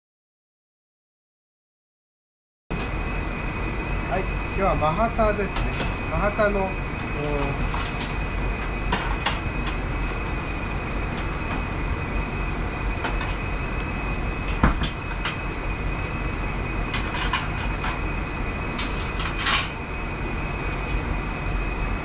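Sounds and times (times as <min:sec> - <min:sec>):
kitchen machinery rumble: 0:02.7 - 0:22.0
thin high whine: 0:02.7 - 0:22.0.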